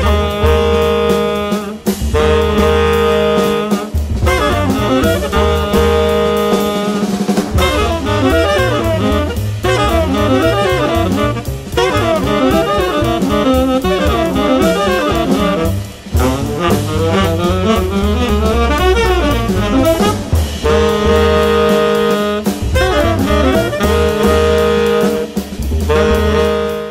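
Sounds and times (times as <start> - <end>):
drum kit: 0.0 - 26.9
saxophones playing fast lines: 0.0 - 26.9
walking double bass: 0.0 - 26.9.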